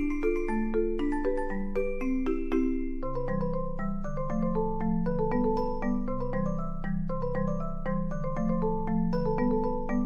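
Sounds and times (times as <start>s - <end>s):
mallet percussion tune: 0.0s - 10.0s.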